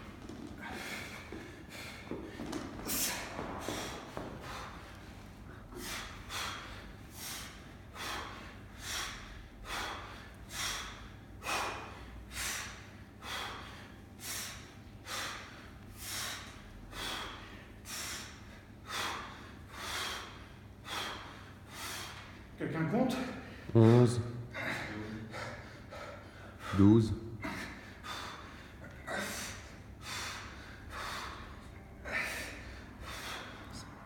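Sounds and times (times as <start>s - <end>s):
man breathing hard: 0.0s - 22.6s, 23.2s - 34.0s.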